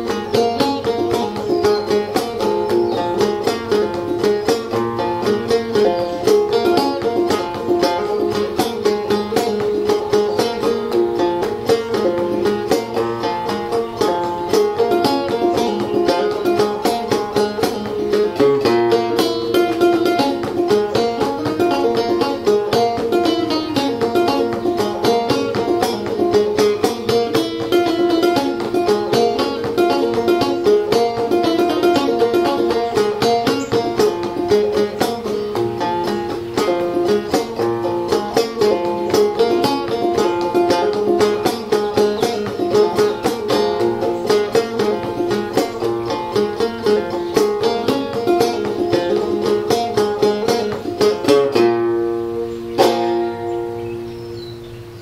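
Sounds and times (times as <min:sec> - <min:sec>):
banjo plucking: 0:00.0 - 0:55.0.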